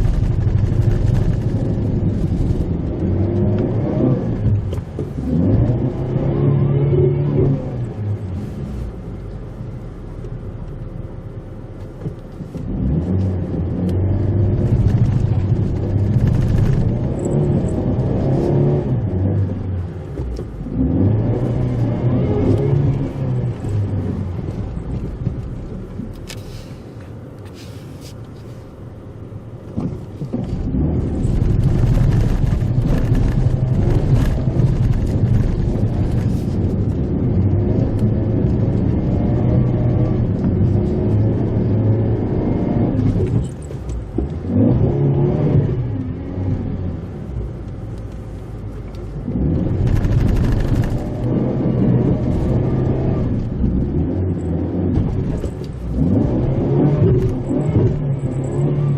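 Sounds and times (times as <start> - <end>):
car engine under load: 0.0 - 58.9.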